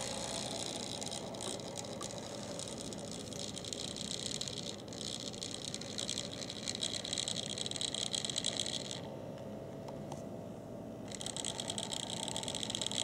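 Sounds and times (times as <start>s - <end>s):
model train motor whirring: 0.0s - 9.1s, 11.1s - 13.0s.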